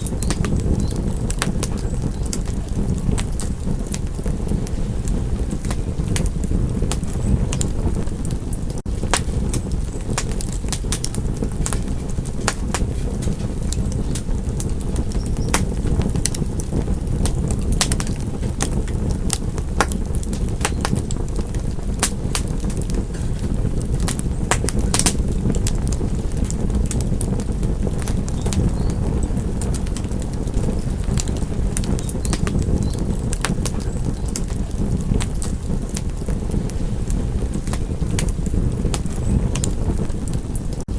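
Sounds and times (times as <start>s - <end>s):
low rumble of burning: 0.0s - 40.9s
wood fire popping and snapping: 0.0s - 40.9s.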